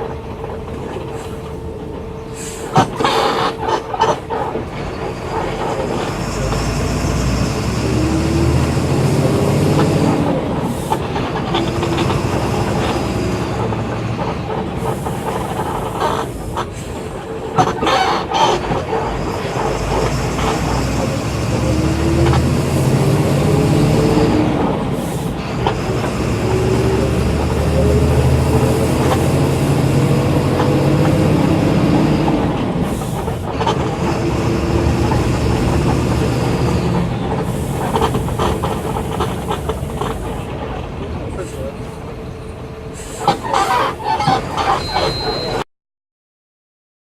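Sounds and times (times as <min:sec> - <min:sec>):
bus diesel engine accelerating: 0:00.0 - 0:45.6.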